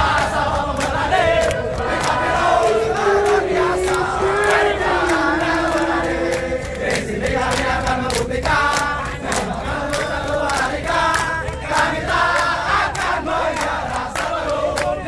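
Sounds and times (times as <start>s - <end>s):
crowd singing in unison: 0.0s - 15.0s.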